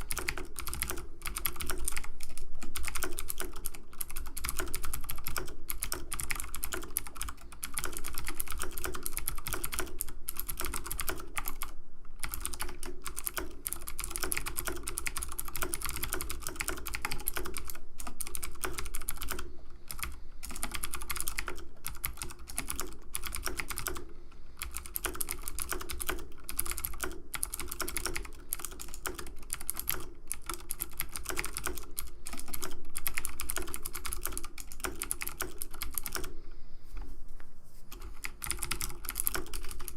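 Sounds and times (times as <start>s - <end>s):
keyboard keys clicking: 0.0s - 24.0s, 24.6s - 36.3s, 37.9s - 39.9s.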